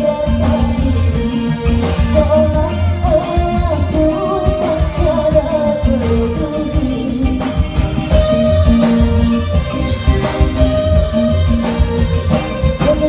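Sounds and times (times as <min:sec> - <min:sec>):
live pop band playing: 0:00.0 - 0:13.0.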